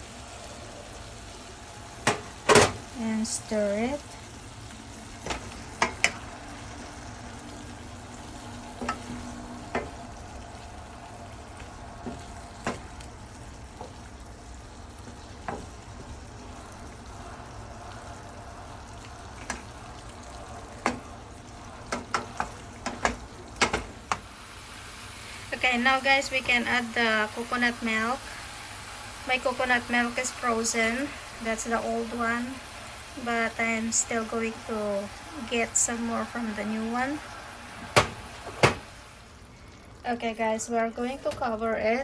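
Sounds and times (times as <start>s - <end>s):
chicken frying in oil: 0.0s - 42.0s.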